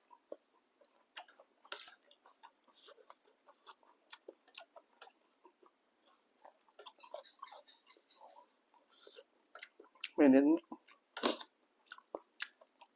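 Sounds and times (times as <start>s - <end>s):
person chewing noodles: 0.0s - 12.9s.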